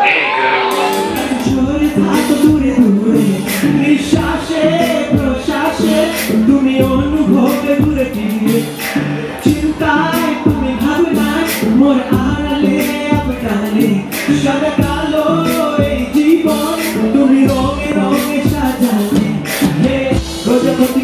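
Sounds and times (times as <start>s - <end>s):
man singing: 0.0s - 21.0s
urban pop backing track: 0.0s - 21.0s.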